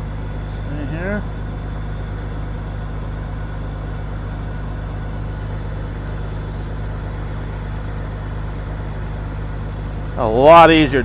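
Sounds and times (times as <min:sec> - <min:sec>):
combine harvester engine idling: 0:00.0 - 0:11.0.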